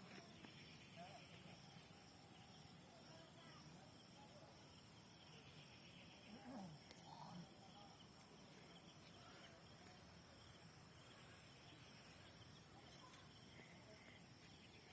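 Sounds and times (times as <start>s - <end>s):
insects trilling: 0.0s - 14.9s.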